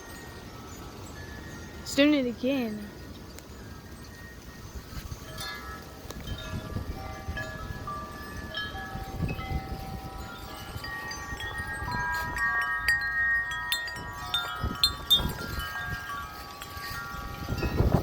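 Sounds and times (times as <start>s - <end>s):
wind chimes ringing: 0.0s - 18.0s
wind gusts on microphone: 0.0s - 18.0s.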